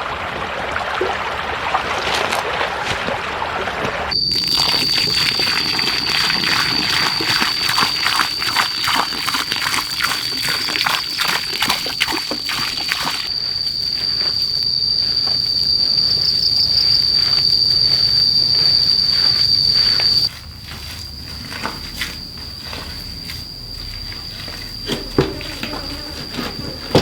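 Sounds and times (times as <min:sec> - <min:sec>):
insect trilling: 0:04.1 - 0:27.0.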